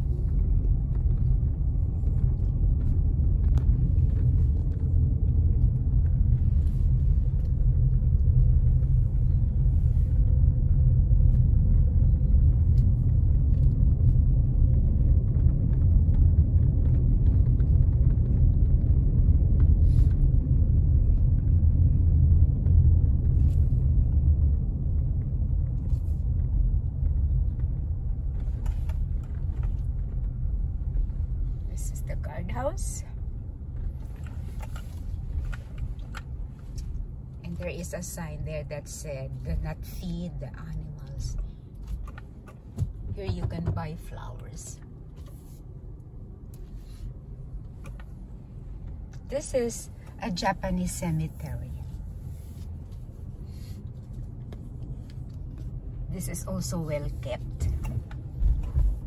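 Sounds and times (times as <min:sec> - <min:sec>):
car driving slowly: 0:00.0 - 0:59.0.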